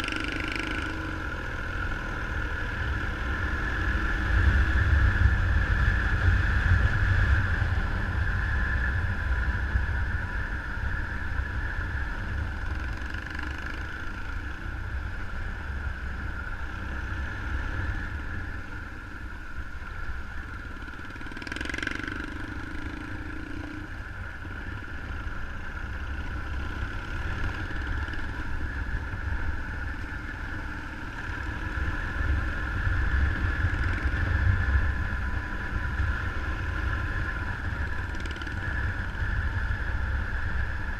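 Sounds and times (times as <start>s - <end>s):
hum: 0.0s - 40.9s
motorcycle engine running: 0.0s - 40.9s
wind rumble on microphone: 0.0s - 40.9s.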